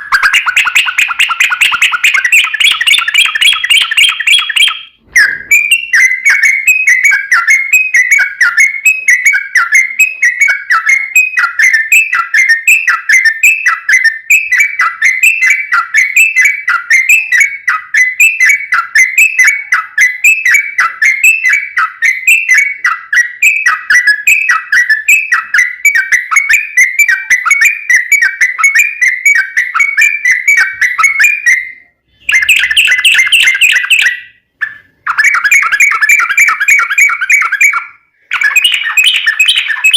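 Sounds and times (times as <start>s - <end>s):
bird singing bubbling whistles: 0.0s - 39.9s.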